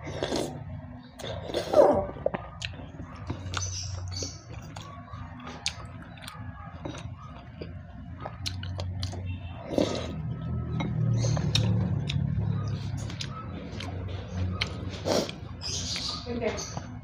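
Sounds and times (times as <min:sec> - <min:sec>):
person chewing food: 0:00.0 - 0:16.1.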